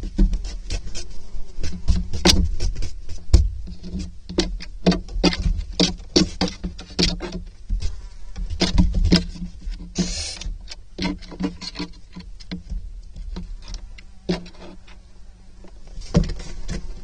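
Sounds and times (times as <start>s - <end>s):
owlet taps and scratches: 0.0s - 15.0s, 15.6s - 17.0s.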